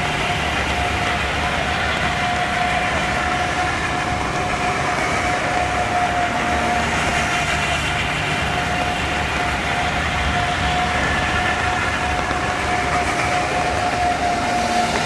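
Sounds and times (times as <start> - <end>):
heavy truck engine running: 0.0 - 15.0.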